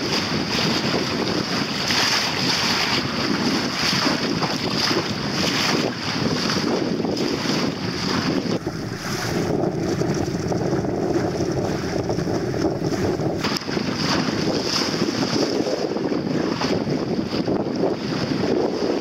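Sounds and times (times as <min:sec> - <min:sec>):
water washing along hull: 0:00.0 - 0:19.0
wind buffeting microphone: 0:00.0 - 0:19.0.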